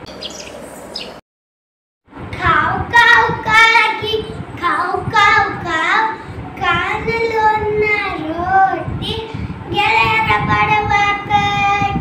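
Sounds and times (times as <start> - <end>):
girl singing unaccompanied: 2.2 - 12.0.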